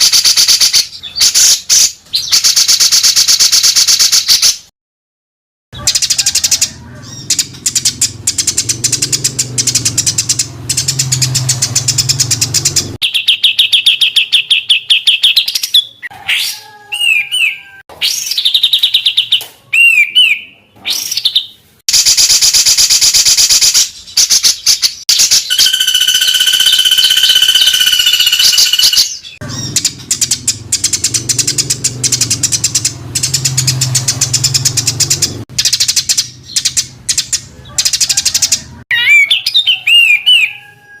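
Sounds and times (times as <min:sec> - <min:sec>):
songbirds calling: 0:00.0 - 0:04.5, 0:05.8 - 0:21.7, 0:22.8 - 0:40.9.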